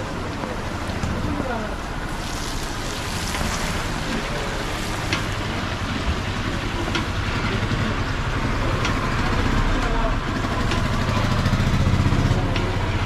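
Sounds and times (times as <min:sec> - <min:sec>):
low engine rumble: 0:00.0 - 0:13.0
outdoor bustle noise: 0:00.0 - 0:13.0.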